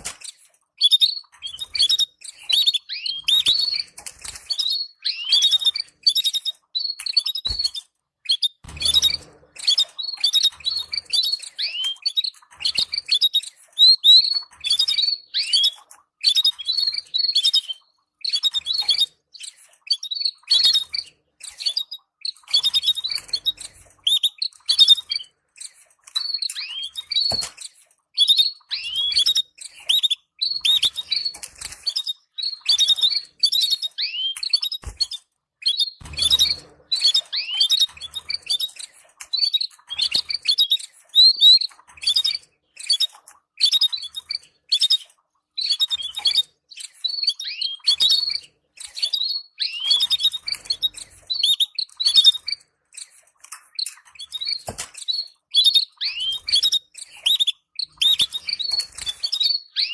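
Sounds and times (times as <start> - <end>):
canaries chirping: 0.0 - 59.9.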